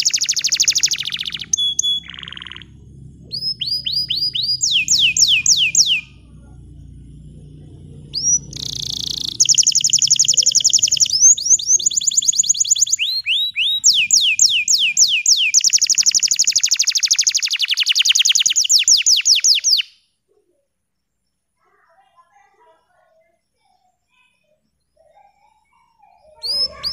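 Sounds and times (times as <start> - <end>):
canary singing fast trills: 0.0 - 6.4, 7.3 - 20.2, 24.1 - 26.9.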